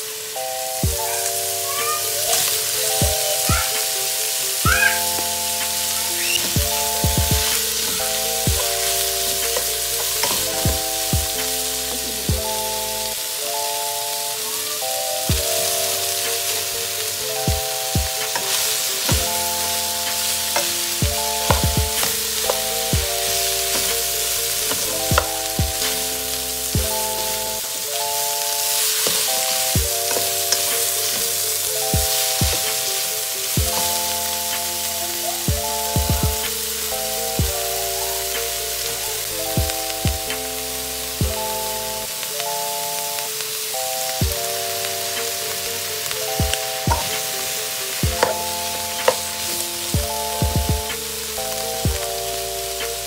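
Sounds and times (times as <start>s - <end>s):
background music with sustained chords: 0.0s - 53.0s
food sizzling in a hot pan: 0.0s - 53.0s.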